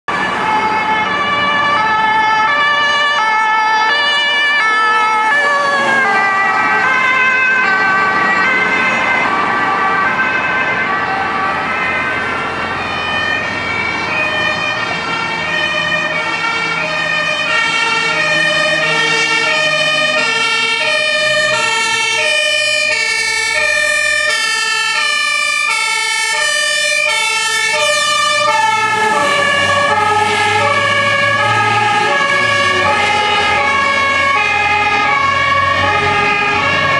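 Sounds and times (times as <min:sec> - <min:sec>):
two-tone fire engine sirens: 0:00.1 - 0:36.9.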